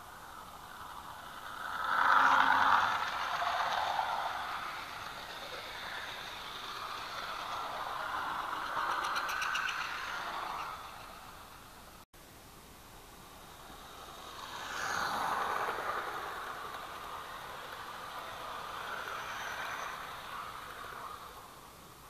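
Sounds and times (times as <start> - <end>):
model train running past: 0.0 - 12.0, 13.1 - 22.0
wagons rattling along track: 0.2 - 12.0, 13.6 - 21.6
rapid wheel clicks: 0.3 - 11.8, 13.8 - 21.5.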